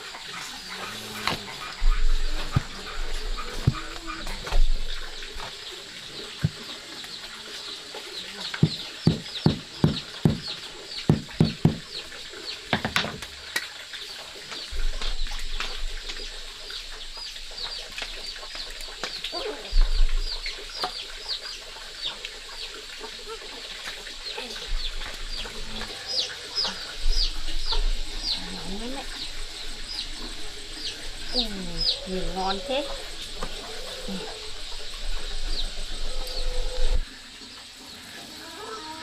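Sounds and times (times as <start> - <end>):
chickens clucking: 0.0 - 12.5, 16.6 - 38.9.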